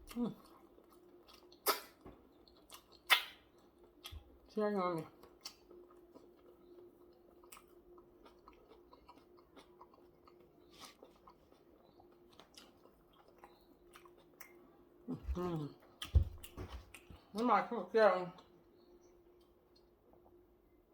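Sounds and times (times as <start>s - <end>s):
chewing food: 0.0s - 17.5s, 18.3s - 20.7s
faint steady hum: 0.0s - 20.9s.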